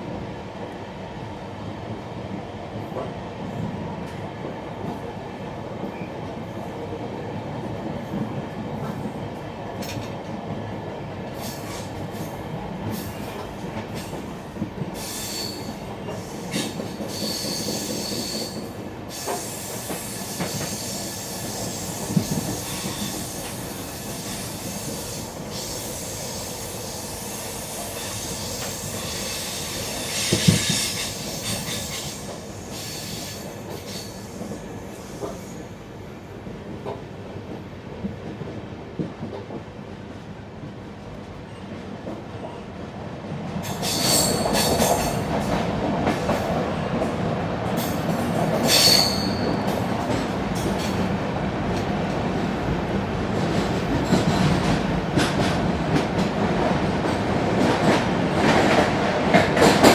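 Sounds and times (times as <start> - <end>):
train coaches rumbling: 0.0 - 59.9.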